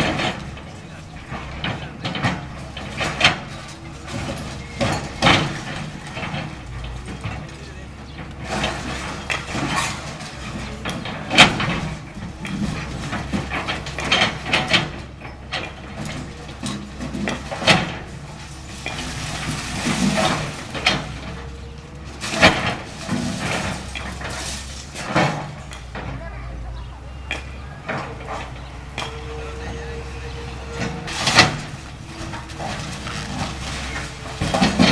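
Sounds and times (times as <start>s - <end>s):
masonry breaking and debris falling: 0.0s - 26.2s, 27.1s - 34.9s
excavator diesel engine running: 0.0s - 34.9s.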